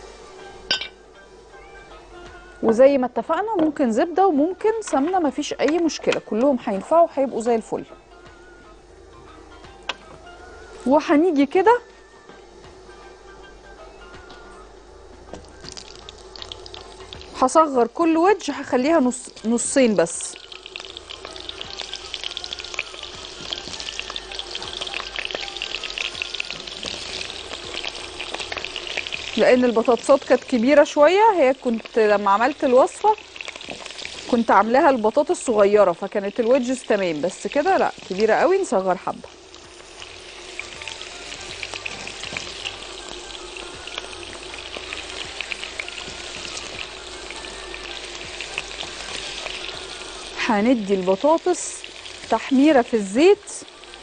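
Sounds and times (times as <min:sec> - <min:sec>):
potatoes sizzling in oil: 0:00.0 - 0:08.7, 0:09.3 - 0:11.8, 0:15.3 - 0:54.0.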